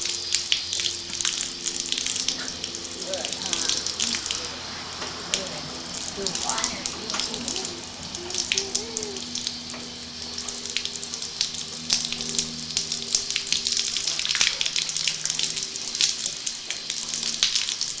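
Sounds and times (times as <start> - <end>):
garden hose spraying water: 0.0 - 18.0
water spattering on horse's muzzle: 0.0 - 18.0.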